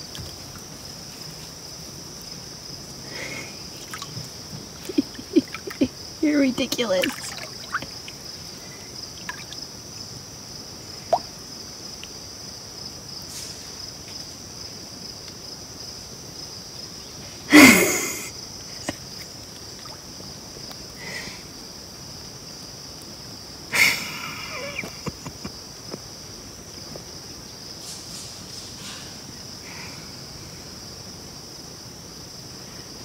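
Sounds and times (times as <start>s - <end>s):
high-pitched insect chorus: 0.0s - 33.0s.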